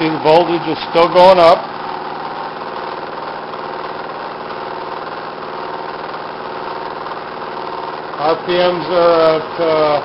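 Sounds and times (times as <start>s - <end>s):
pulse motor pulsing hum: 0.0s - 10.0s.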